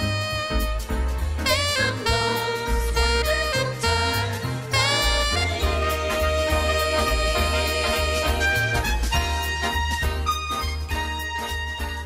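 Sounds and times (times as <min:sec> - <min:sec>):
saxophone melody: 0:00.0 - 0:12.0
swing backing track: 0:00.0 - 0:12.0.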